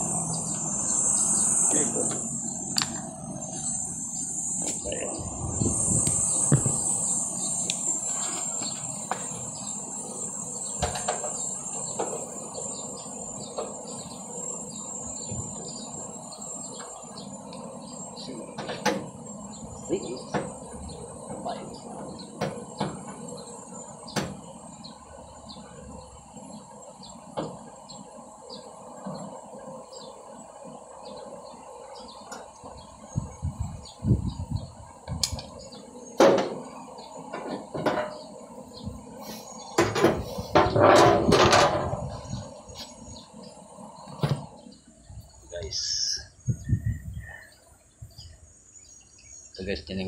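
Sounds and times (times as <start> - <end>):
insects chirring: 0.0 - 50.0.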